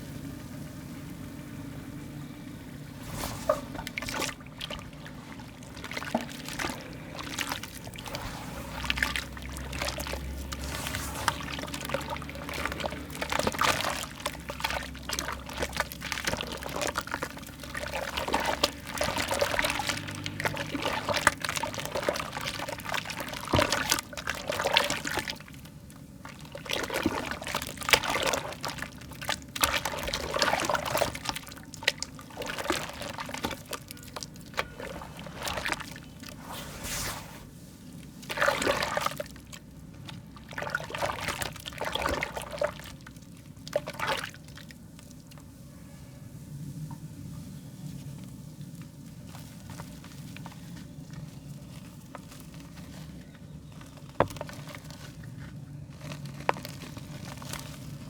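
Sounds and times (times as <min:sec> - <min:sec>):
wet mud squelching by hand: 0:02.9 - 0:45.4, 0:48.0 - 0:58.0.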